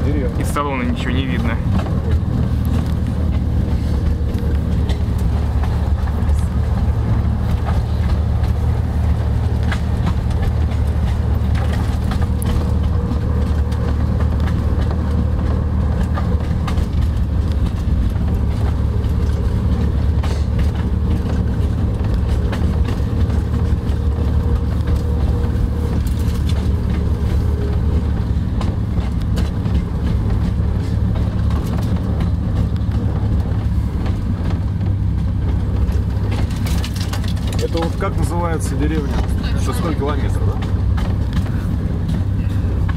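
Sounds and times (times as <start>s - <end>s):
diesel train drone: 0.0s - 42.9s
wheels clicking on track: 0.0s - 42.9s.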